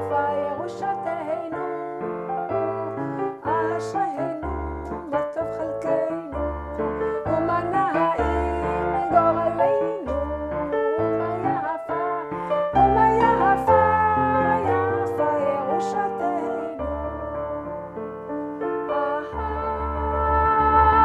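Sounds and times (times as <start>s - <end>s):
woman singing: 0.0s - 17.9s, 18.8s - 21.0s
keyboard accompaniment: 0.0s - 21.0s.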